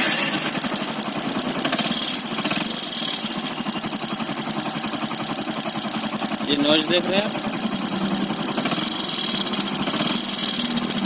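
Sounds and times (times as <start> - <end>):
motorcycle engine knocking: 0.4 - 11.0.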